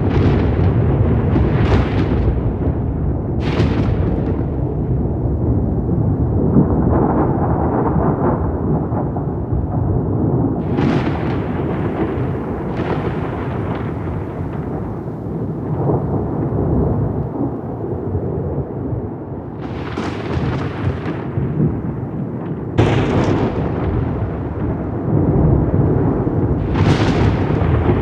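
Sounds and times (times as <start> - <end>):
deep rolling thunder: 0.0 - 28.0
sharp thunder cracks: 0.0 - 28.0.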